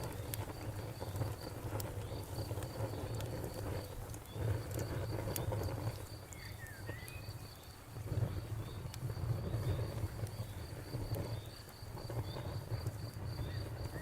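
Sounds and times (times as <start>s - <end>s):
campfire crackling: 0.0s - 14.0s
cricket chirping: 0.0s - 14.0s.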